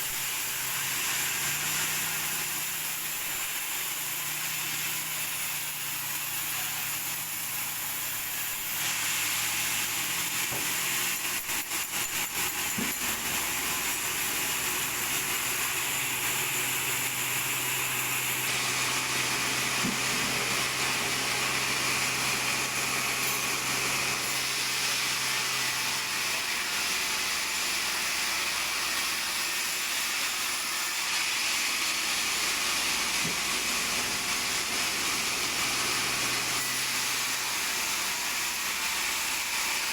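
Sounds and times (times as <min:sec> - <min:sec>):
saw hissing through wood: 0:00.0 - 0:39.9.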